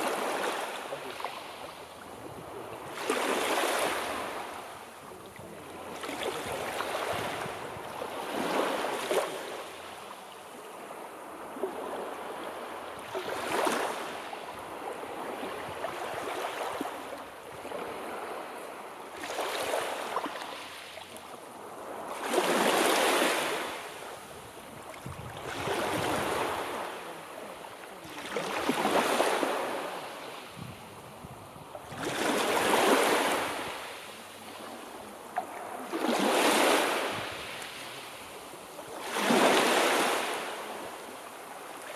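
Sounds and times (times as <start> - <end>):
sea waves breaking: 0.0 - 41.9.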